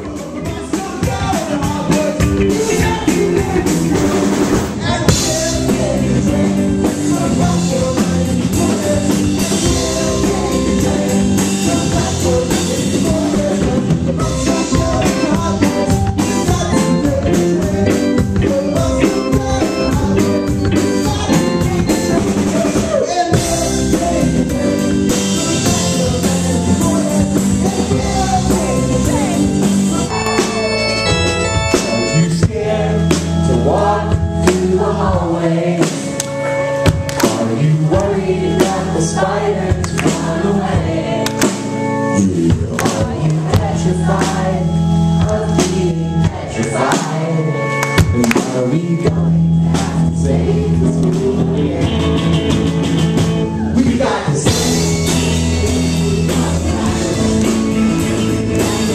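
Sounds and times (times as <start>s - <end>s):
rock band playing: 0.0s - 58.9s.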